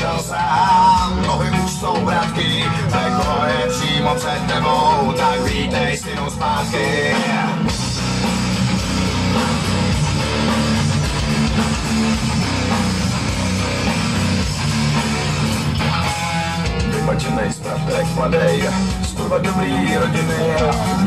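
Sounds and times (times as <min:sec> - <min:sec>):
bass guitar: 0:00.0 - 0:21.0
electric guitars: 0:00.0 - 0:21.0.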